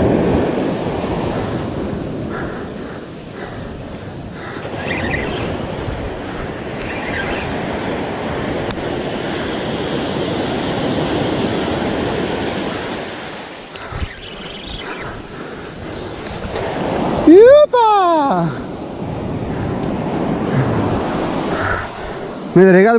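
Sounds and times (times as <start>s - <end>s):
ocean surf breaking on shore: 0.0s - 22.9s.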